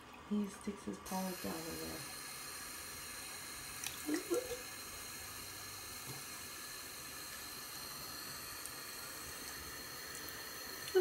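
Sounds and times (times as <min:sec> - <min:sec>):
faucet water running into sink: 0:01.0 - 0:11.0.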